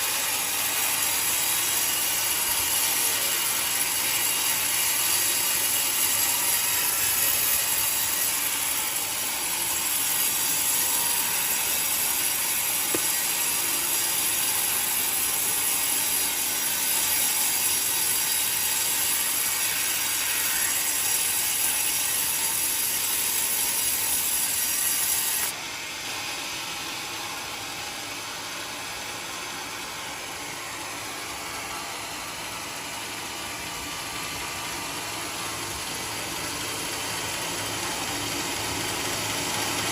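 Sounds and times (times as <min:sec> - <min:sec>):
saw cutting wood: 0:00.0 - 0:39.9
sawmill machine running: 0:00.0 - 0:39.9.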